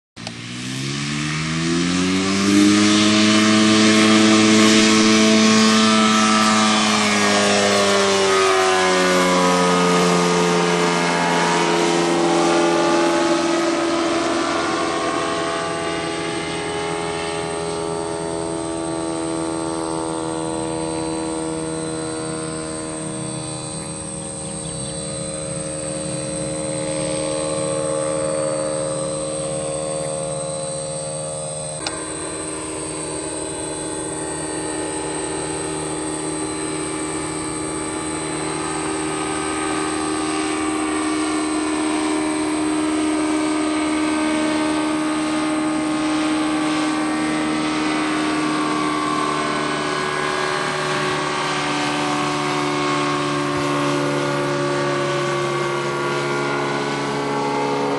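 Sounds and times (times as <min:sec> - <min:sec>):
microlight engine and propeller: 0:00.2 - 0:57.9.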